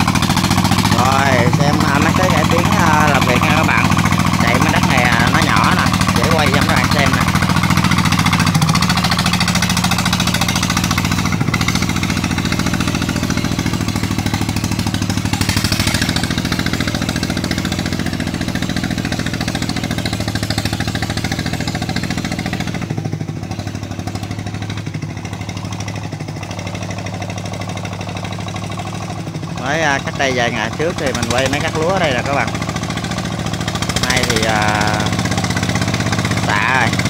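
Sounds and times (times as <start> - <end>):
diesel tractor engine chugging: 0.0 - 37.0.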